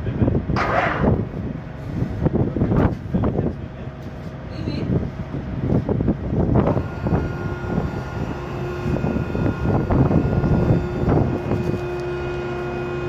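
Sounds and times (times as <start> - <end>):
low rumbling: 0.0 - 13.0
motor humming and whining: 0.6 - 13.0.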